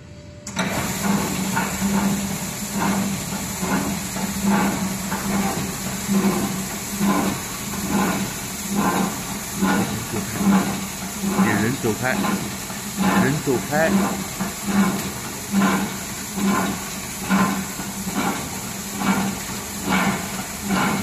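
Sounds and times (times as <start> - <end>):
floor grinder running: 0.6 - 21.0.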